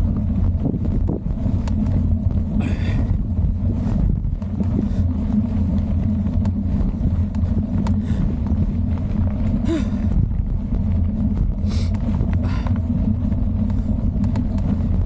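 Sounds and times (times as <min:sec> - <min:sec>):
bike rattling over bumps: 0:00.0 - 0:15.0
tyres rumbling on dirt: 0:00.0 - 0:15.0
wind buffeting microphone: 0:00.0 - 0:15.0.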